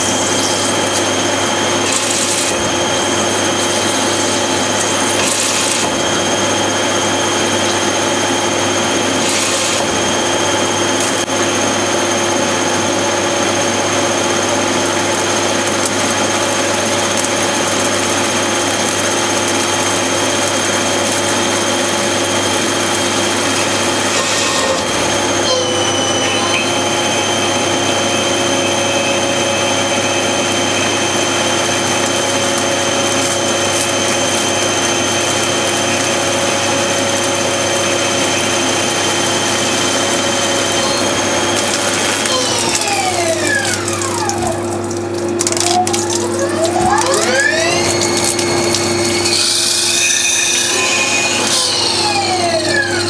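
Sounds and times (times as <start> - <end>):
lathe spindle whine: 0.0 - 53.0.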